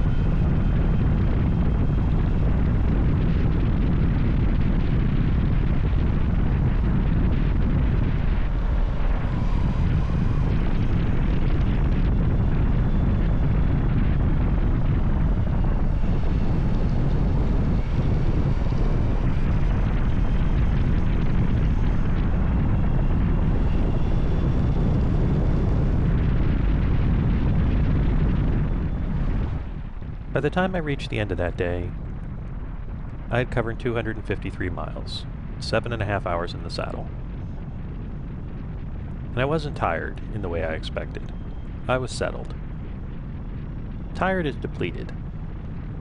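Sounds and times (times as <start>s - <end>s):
motorcycle engine drone: 0.0s - 46.0s
wind and road rush: 0.0s - 46.0s.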